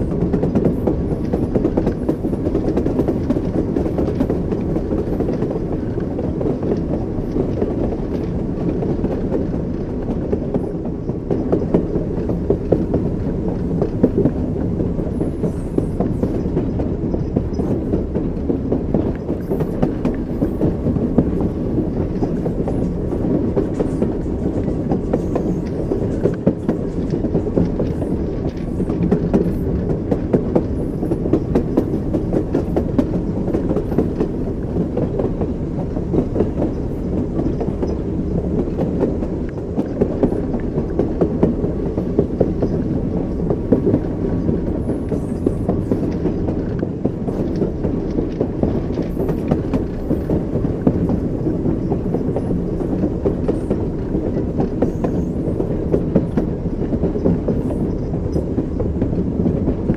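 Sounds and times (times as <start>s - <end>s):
train rumble: 0.0s - 59.9s
train wheels clicking over joints: 0.0s - 59.9s.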